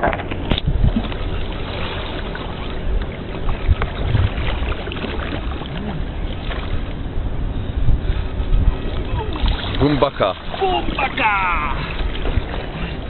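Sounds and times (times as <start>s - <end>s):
water lapping and trickling: 0.0s - 13.0s.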